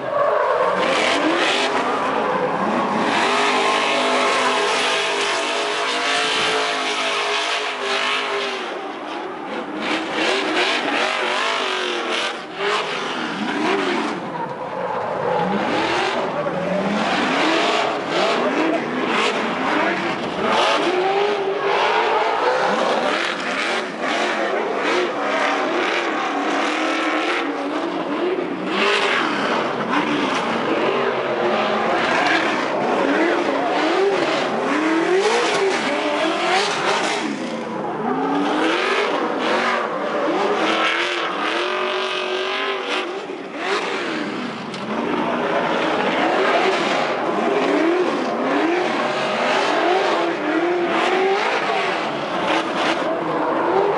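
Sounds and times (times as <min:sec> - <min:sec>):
truck engines revving hard: 0:00.0 - 0:53.9.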